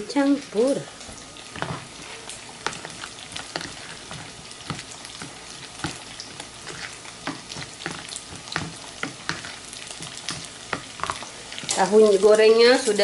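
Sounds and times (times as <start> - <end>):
tofu sizzling in oil: 0.0 - 13.0.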